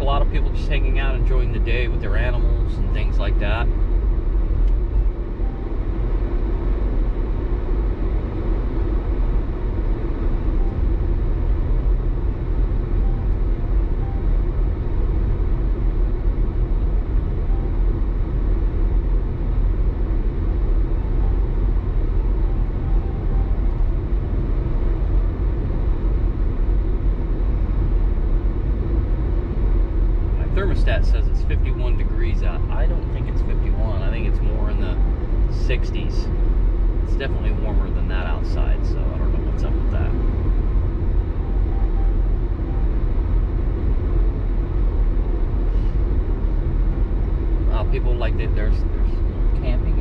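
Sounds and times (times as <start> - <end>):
car engine rumble: 0.0 - 50.0
tyres on road: 0.0 - 50.0.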